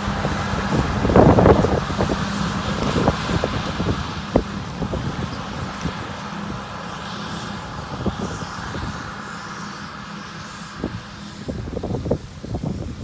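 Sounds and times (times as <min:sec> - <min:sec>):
farm machinery engine running: 0:00.0 - 0:13.0.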